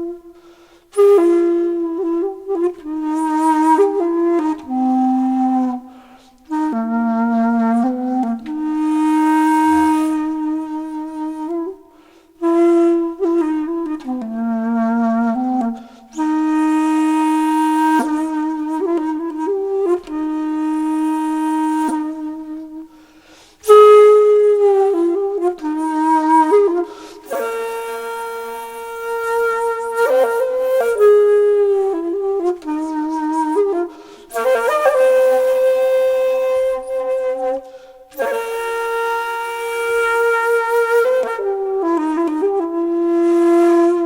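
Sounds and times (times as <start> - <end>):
solo flute melody: 0.0 - 44.0.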